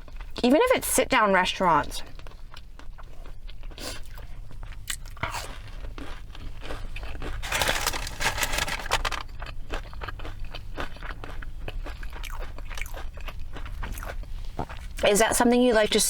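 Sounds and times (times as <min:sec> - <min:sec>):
chewing and crisp bites: 0:02.2 - 0:15.0.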